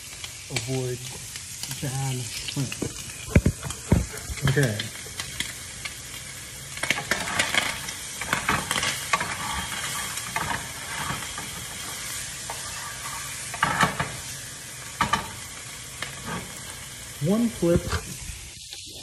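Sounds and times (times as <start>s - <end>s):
shrimp sizzling in a pan: 0.0s - 19.0s.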